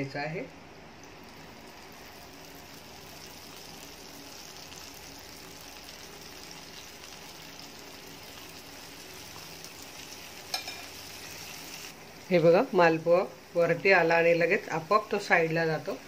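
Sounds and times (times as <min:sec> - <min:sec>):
batter sizzling in hot oil: 0:00.0 - 0:16.0.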